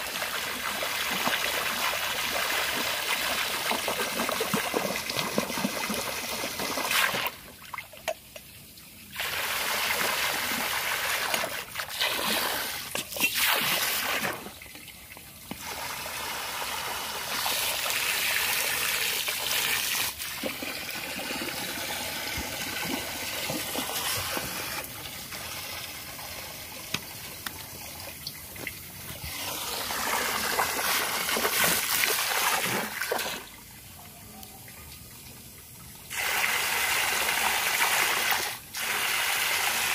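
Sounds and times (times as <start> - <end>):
hose water splashing into pool: 0.0 - 39.9.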